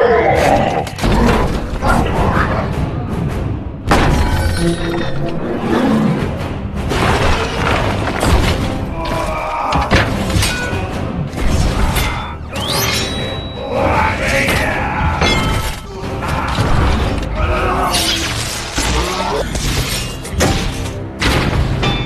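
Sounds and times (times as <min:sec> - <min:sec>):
music: 0:00.0 - 0:22.0.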